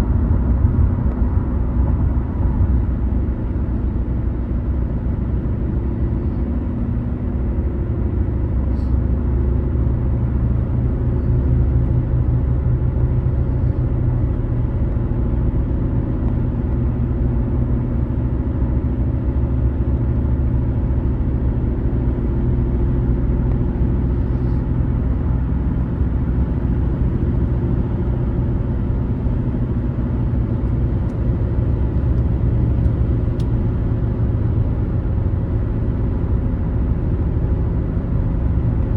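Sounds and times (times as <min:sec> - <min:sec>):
car tyres and engine rumble: 0:00.0 - 0:38.9.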